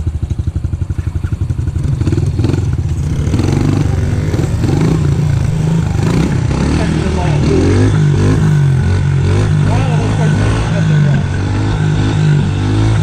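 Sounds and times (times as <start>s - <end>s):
small engine idling and revving: 0.0s - 13.0s.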